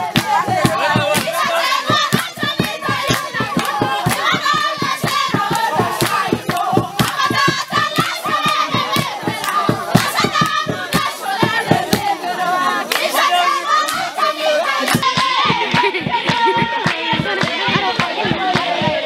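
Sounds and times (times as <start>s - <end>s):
group singing: 0.0s - 19.0s
rhythmic hand clapping: 0.0s - 19.0s.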